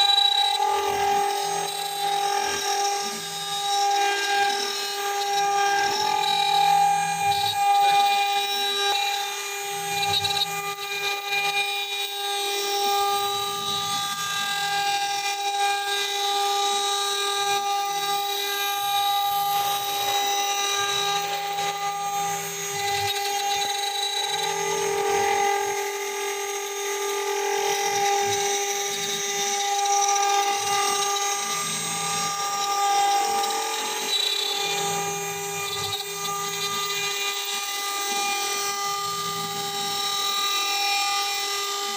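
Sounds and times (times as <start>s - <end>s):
router spindle high whine: 0.0s - 41.9s.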